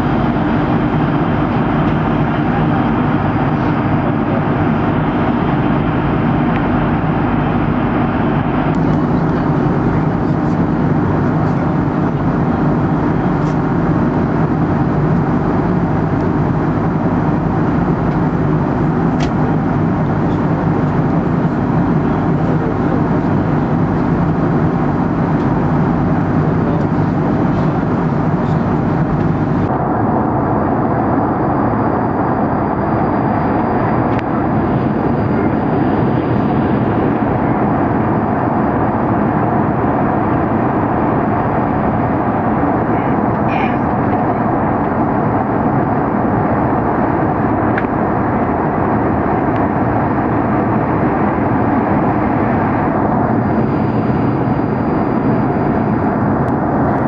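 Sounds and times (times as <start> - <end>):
constant low hum: 0.0 - 57.0
jet engines and airflow rushing: 0.0 - 57.0.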